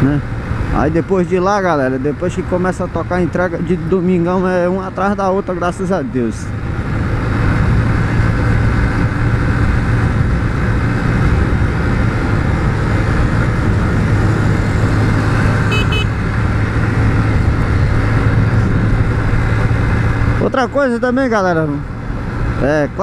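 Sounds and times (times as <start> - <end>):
motorcycle engine hum: 0.0 - 23.0
road and wind noise: 0.0 - 23.0.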